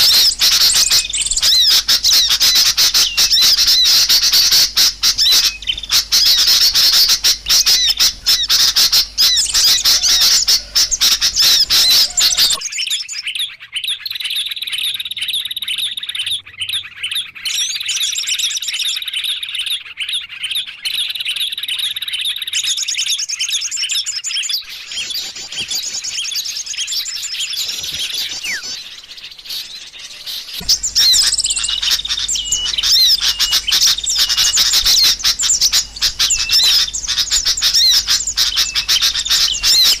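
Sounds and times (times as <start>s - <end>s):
rapid repeated bird trills: 0.0s - 40.0s
small birds chirping chorus: 0.0s - 40.0s.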